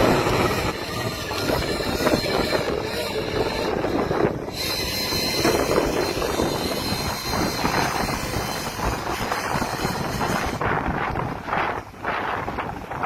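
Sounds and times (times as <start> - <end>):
boat engine low rumble: 0.0 - 13.0
wind buffeting microphone: 0.0 - 13.0.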